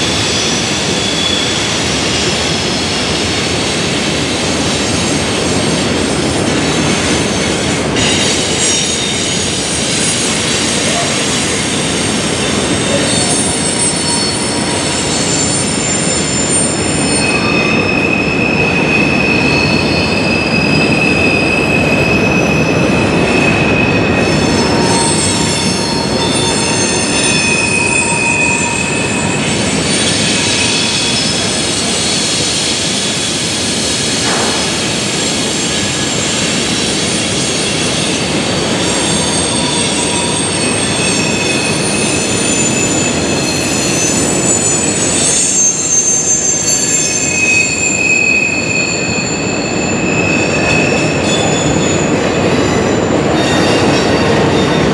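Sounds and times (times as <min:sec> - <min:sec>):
train rolling rumble: 0:00.0 - 0:54.9
train wheels squealing: 0:00.0 - 0:54.9.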